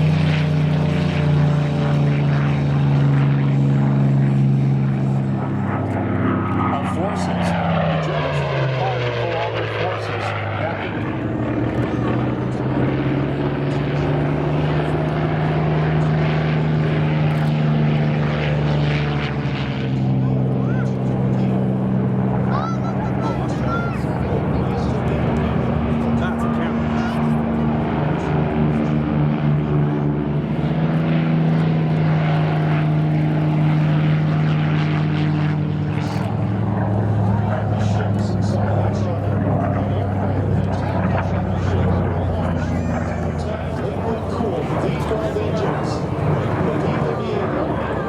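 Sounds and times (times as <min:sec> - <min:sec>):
propeller aircraft engine drone: 0:00.0 - 0:48.0.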